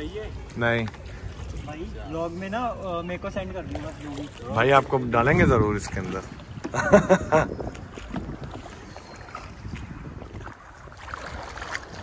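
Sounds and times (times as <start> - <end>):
canoe paddling water sounds: 0.0 - 12.0
wind rumbling on microphone: 0.0 - 12.0.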